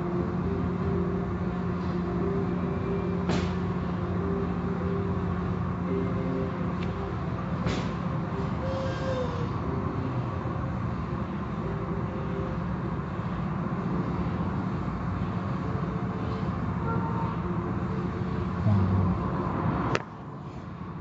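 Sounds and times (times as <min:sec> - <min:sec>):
car wash machinery rumble: 0:00.0 - 0:21.0.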